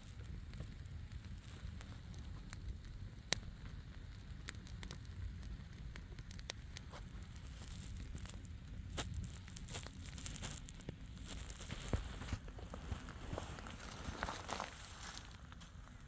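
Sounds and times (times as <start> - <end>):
bonfire crackling and popping: 0.0 - 16.0
low steady rumble of fire: 0.0 - 16.0.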